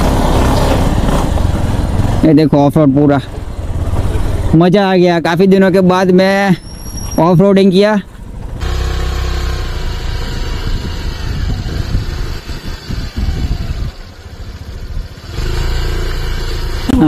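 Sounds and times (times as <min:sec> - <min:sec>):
motorcycle engine running: 0:00.0 - 0:06.0, 0:07.6 - 0:17.0.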